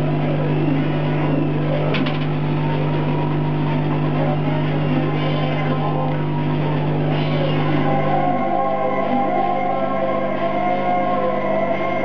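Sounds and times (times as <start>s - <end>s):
laser cutter low hum: 0.0s - 12.0s
stepper motors whining: 0.0s - 12.0s.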